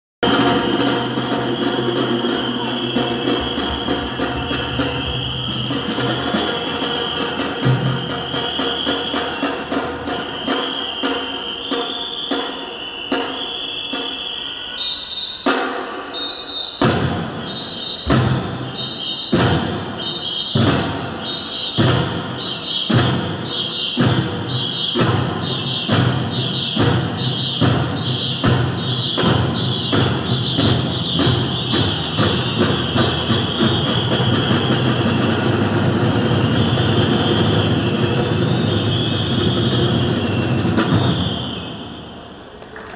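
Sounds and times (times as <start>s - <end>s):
large drums beating: 0.2s - 13.5s, 16.7s - 41.7s.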